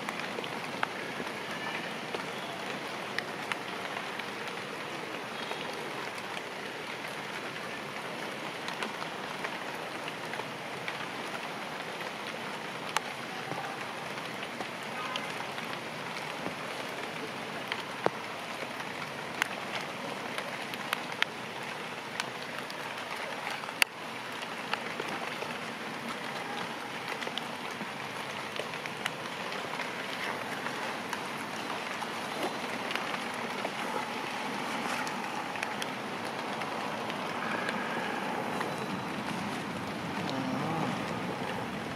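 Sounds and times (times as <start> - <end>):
steady rain on foliage: 0.0 - 41.9.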